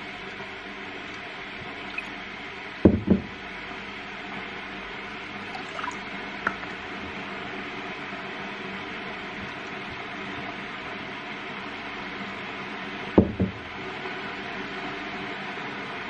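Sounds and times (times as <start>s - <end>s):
water heating rushing hum: 0.0s - 16.0s.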